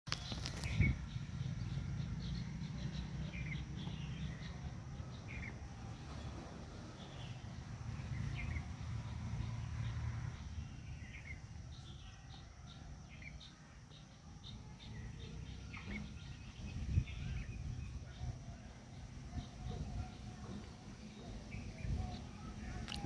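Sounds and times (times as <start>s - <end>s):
birds chirping: 0.1s - 23.0s
low outdoor ambient rumble: 0.1s - 23.0s.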